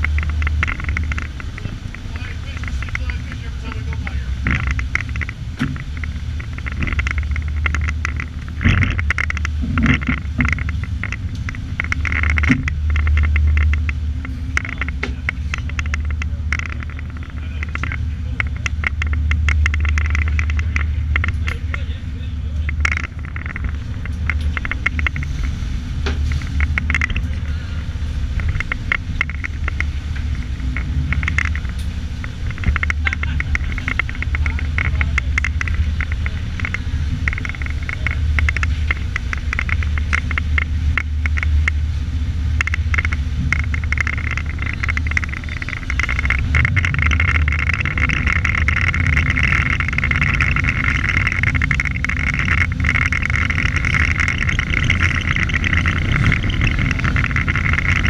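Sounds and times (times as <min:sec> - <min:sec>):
boat engine droning: 0:00.0 - 0:58.0
wind and water noise: 0:00.0 - 0:58.0.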